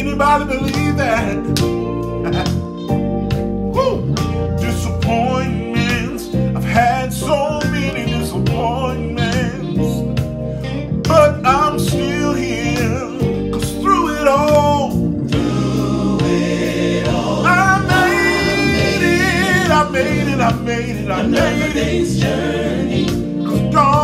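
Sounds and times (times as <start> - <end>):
man singing gospel: 0.0 - 3.0, 3.7 - 10.1, 11.0 - 24.0
instrumental backing: 0.0 - 24.0.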